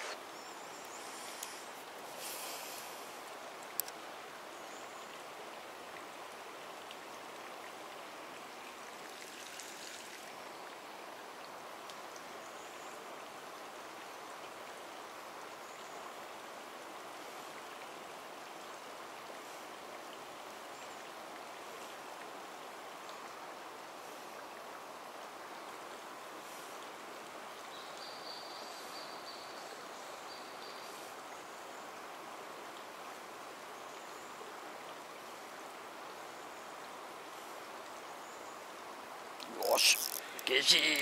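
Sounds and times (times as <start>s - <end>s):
flowing river water: 0.0s - 41.0s.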